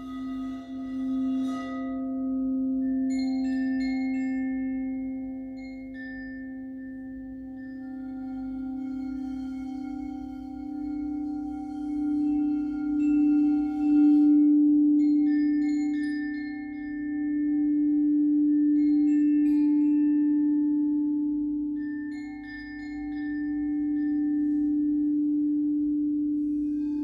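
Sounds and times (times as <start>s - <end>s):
singing bowls ringing: 0.0s - 27.0s.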